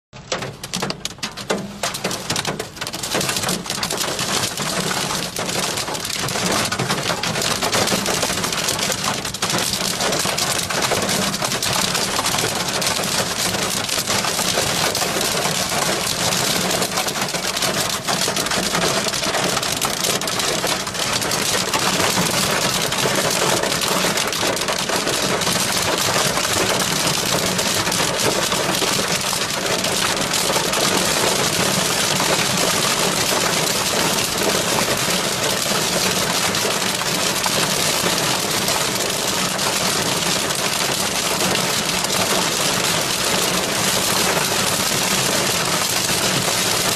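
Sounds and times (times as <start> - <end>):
rain and hail on car roof: 0.2 - 46.9.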